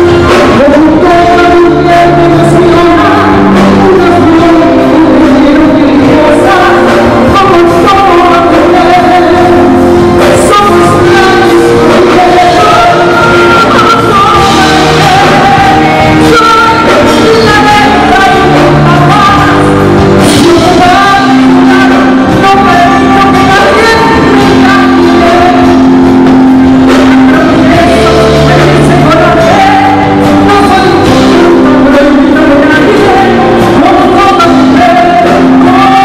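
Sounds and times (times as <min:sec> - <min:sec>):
instrumental accompaniment: 0:00.0 - 0:36.0
singer holding long notes: 0:00.0 - 0:36.0.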